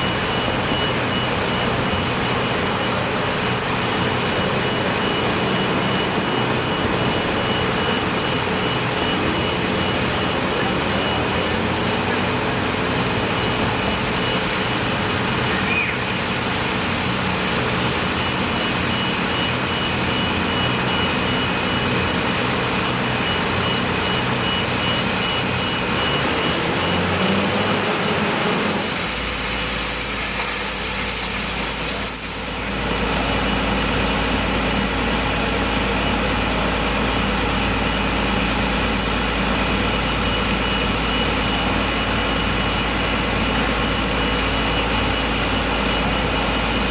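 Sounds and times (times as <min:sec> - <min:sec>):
heavy engine running: 0:00.0 - 0:46.9.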